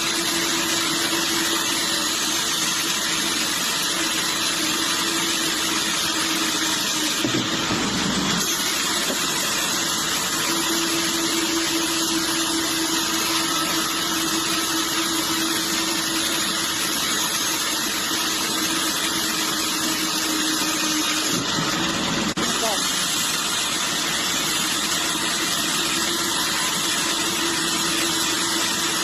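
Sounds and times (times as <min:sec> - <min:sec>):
sawmill machinery drone: 0:00.0 - 0:29.0
steady machine whine: 0:00.0 - 0:29.0.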